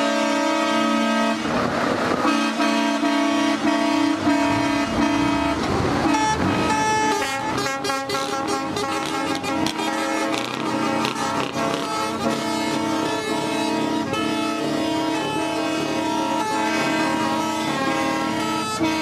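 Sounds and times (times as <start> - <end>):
truck air horns blaring: 0.0 - 19.0.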